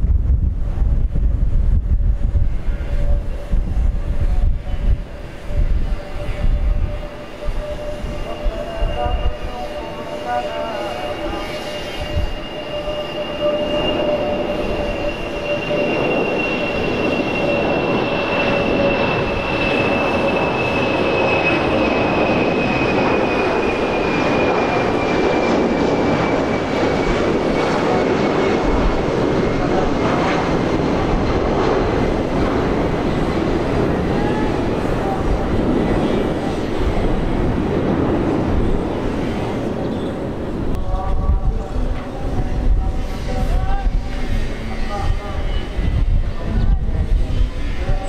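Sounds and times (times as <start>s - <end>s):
jet airliner roar: 0.0s - 48.0s
jet fan whine: 0.0s - 48.0s.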